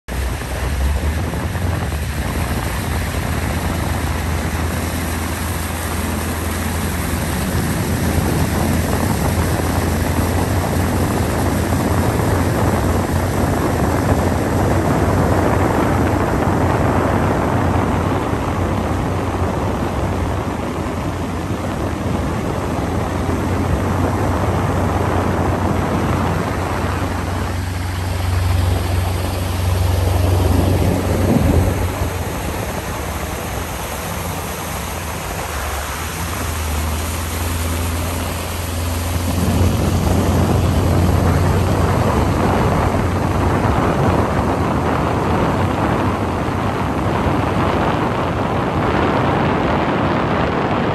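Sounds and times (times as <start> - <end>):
motorboat engine hum: 0.0 - 50.9
wind and water rushing: 0.0 - 50.9.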